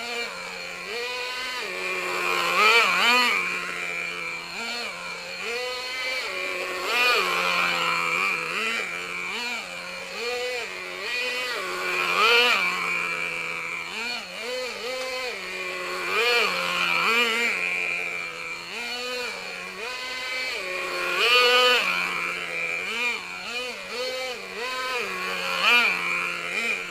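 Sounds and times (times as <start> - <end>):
small nitro engine revving: 0.0 - 26.9.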